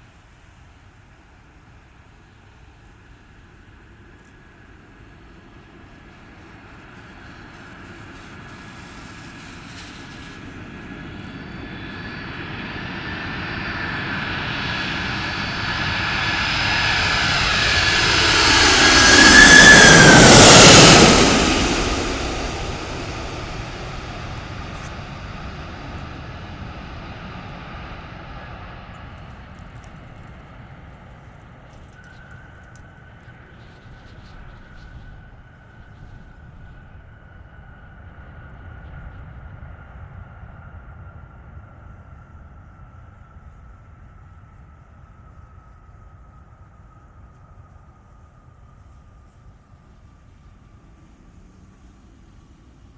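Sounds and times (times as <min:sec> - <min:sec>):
jet aircraft passing overhead: 0:00.0 - 0:52.9
high engine whine: 0:00.1 - 0:52.9.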